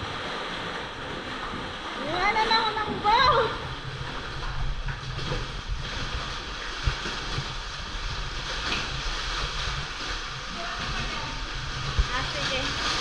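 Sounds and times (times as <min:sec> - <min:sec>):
sea water sloshing against rock: 0:00.0 - 0:13.0
wind rumble on microphone: 0:00.0 - 0:13.0.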